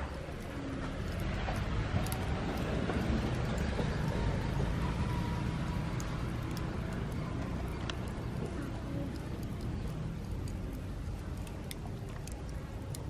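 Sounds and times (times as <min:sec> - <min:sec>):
low outdoor rumble: 0:00.0 - 0:13.0
wood fire crackling: 0:00.0 - 0:13.0.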